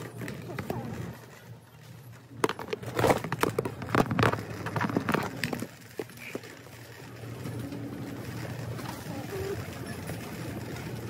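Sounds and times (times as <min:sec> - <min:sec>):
wire shopping cart rattling: 0:00.0 - 0:11.0.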